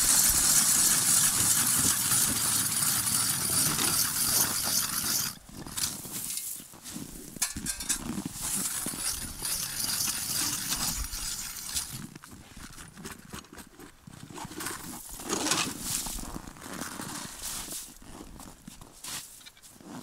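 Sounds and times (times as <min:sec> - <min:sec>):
ice augers grinding through ice: 0:00.0 - 0:17.8.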